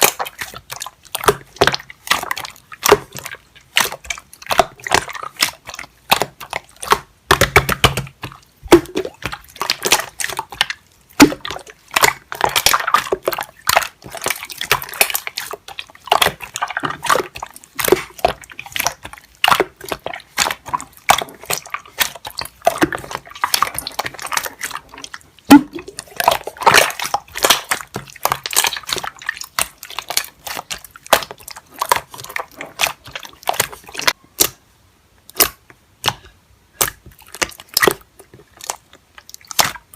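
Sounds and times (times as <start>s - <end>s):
slime squishing with wet pops: 0.0s - 39.9s.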